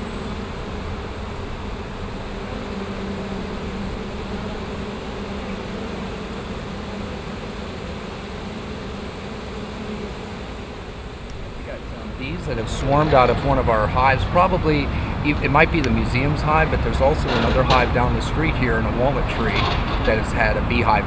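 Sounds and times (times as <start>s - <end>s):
bee swarm humming: 0.0s - 21.0s.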